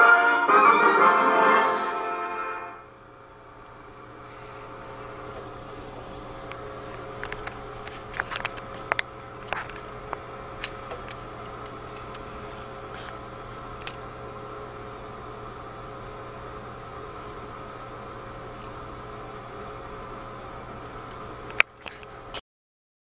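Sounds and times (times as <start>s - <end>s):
electrical hum and hiss: 0.0s - 22.4s.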